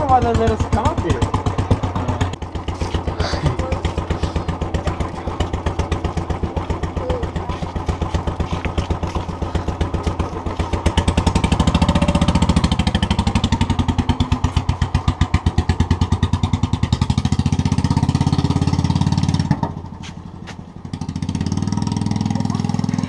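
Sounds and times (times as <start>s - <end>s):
motorcycle engine exhaust beat: 0.0s - 23.0s.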